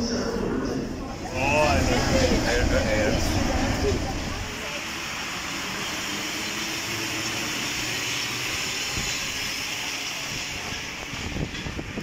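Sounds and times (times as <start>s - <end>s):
train rushing hiss: 1.2s - 12.0s.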